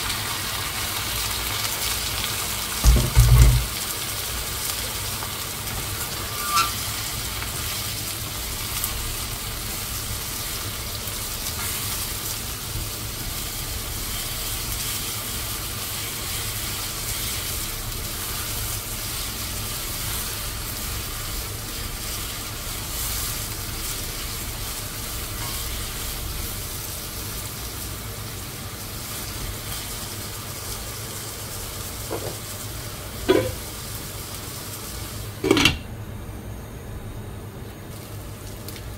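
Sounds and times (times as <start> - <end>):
food sizzling in oil: 0.0 - 35.6, 37.7 - 38.9.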